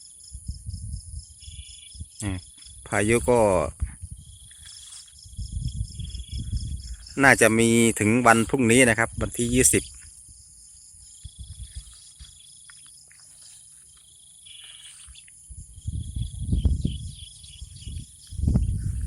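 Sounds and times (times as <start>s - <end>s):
crickets and insects chirping: 0.0s - 19.0s.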